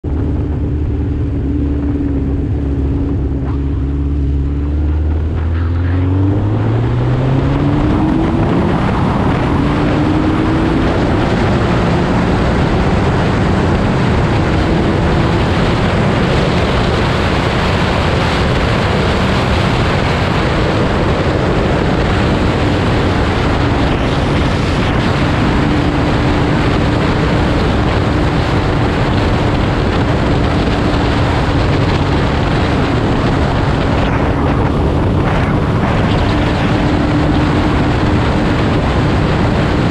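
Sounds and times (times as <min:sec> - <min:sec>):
motorcycle engine: 0:00.0 - 0:39.9
wind rushing on microphone: 0:00.0 - 0:39.9.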